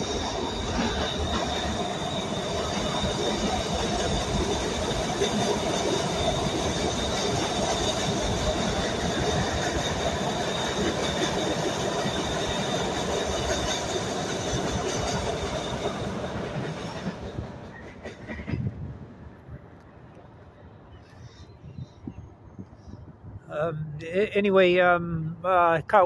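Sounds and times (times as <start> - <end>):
subway wheels rumbling on rails: 0.0 - 23.5.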